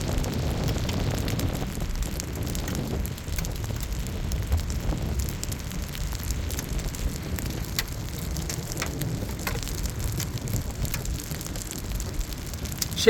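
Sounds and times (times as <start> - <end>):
raindrops hitting: 0.0 - 13.0
wind rumble on microphone: 0.0 - 13.0.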